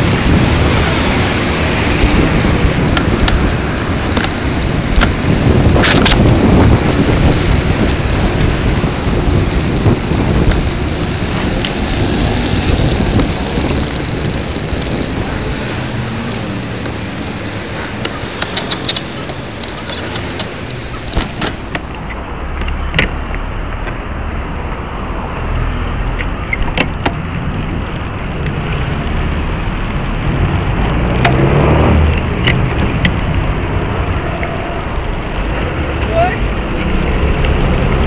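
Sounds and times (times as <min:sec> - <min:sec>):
bike clicks and rattles: 0:00.0 - 0:25.5, 0:26.1 - 0:31.5, 0:32.1 - 0:38.0
motor vehicle passing: 0:00.0 - 0:26.6, 0:27.2 - 0:38.0
bicycle tyre and wind noise: 0:00.0 - 0:38.0.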